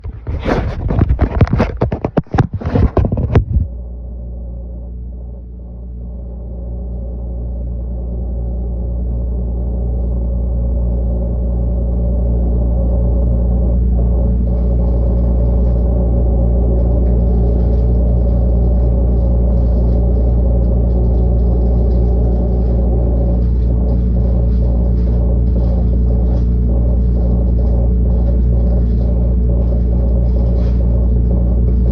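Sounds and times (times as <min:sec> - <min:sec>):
refrigerator humming: 0:00.0 - 0:31.9.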